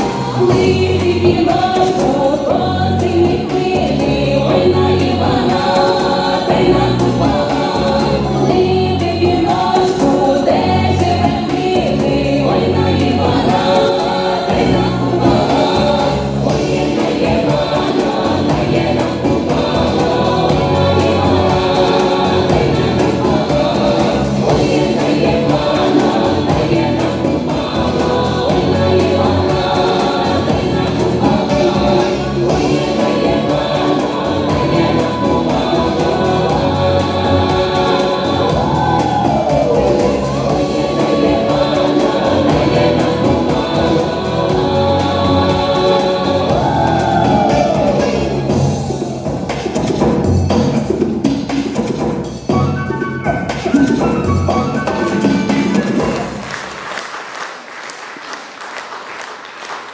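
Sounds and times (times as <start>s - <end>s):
choir singing: 0.0s - 50.1s, 52.5s - 57.2s.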